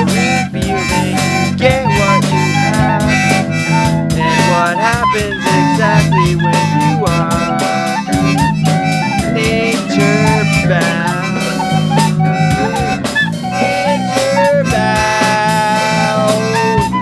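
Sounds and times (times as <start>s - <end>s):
bass line: 0.0s - 17.0s
steady drum beat: 0.0s - 17.0s
wind instrument melody: 0.0s - 17.0s.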